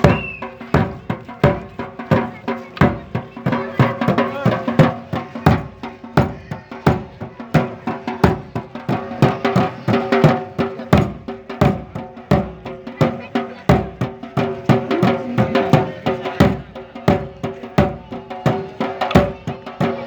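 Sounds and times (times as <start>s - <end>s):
percussion beat: 0.0s - 20.0s.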